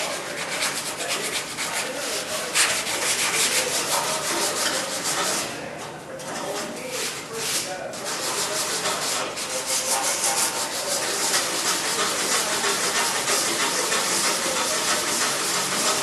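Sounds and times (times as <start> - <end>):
sandpaper rasping on a surface: 0.0 - 5.5, 6.8 - 16.0.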